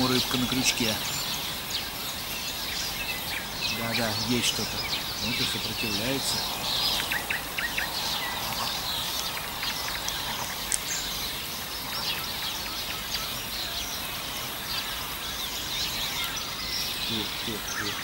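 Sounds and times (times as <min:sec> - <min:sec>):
outdoor hiss: 0:00.0 - 0:18.0
small birds chirping: 0:00.0 - 0:18.0.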